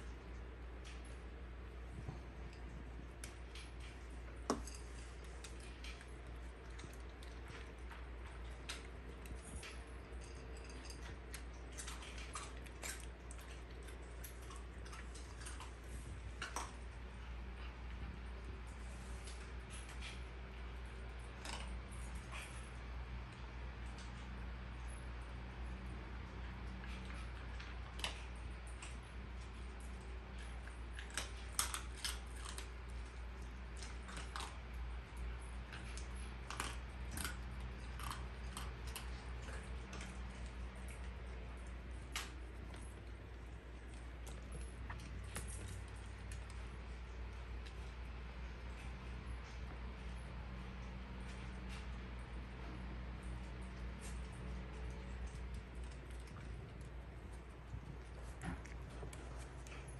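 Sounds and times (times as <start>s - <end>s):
dog crunching kibble: 0.0s - 59.9s.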